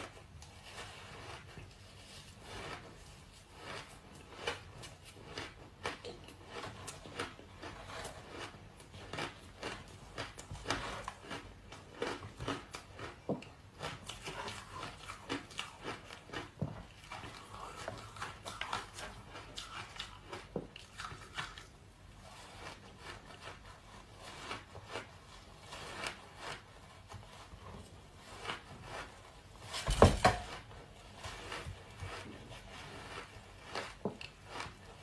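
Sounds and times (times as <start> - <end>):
ice being crunched and chewed: 0.0 - 35.0.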